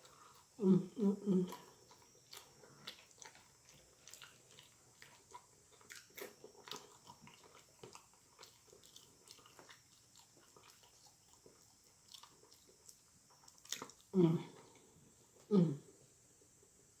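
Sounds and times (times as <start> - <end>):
person chewing food: 0.0 - 15.5.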